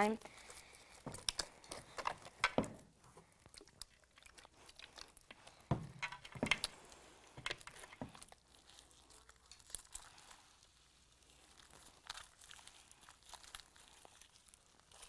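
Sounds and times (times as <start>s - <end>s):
slime squishing and crackling: 0.0s - 15.0s.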